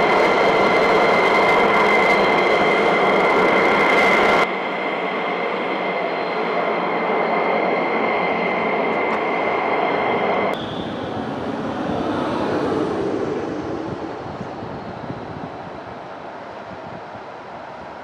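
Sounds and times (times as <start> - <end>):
jet engine roar and whine: 0.0 - 18.0.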